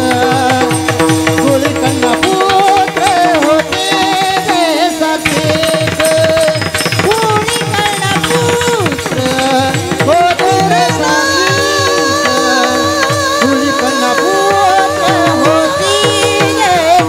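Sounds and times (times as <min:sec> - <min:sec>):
drum strokes: 0:00.0 - 0:17.0
hand cymbals clashing: 0:00.0 - 0:17.0
men singing devotional song: 0:00.0 - 0:17.0.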